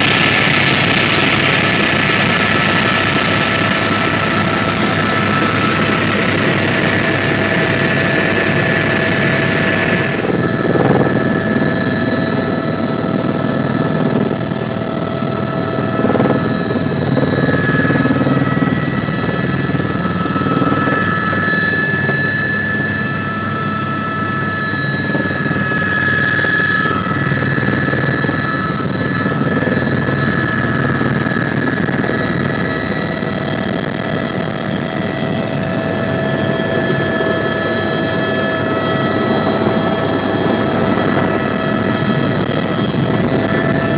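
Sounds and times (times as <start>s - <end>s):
helicopter engine and rotor noise: 0.0s - 43.9s.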